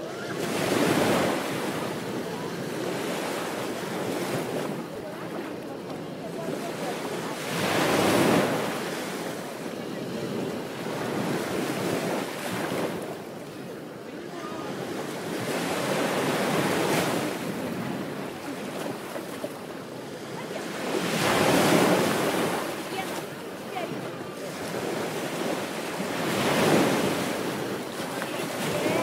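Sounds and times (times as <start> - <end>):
ocean waves breaking on beach: 0.0 - 29.0.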